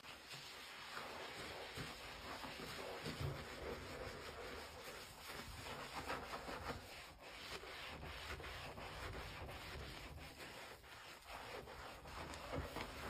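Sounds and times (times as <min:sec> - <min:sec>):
sponge scrubbing sink: 0:00.0 - 0:13.0.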